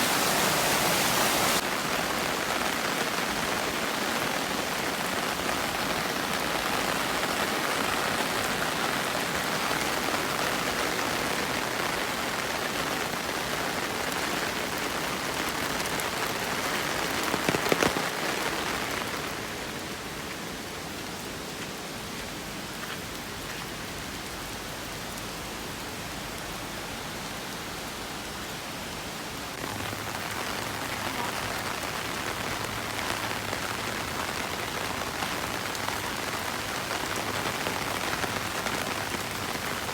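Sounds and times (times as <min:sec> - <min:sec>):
rain splashing on surfaces: 0:00.0 - 0:39.9.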